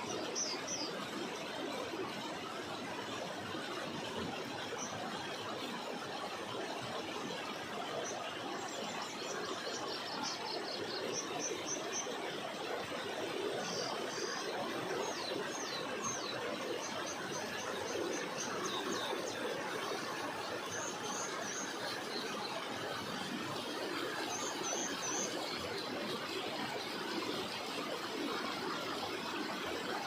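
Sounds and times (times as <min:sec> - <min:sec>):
water flowing: 0:00.0 - 0:30.0.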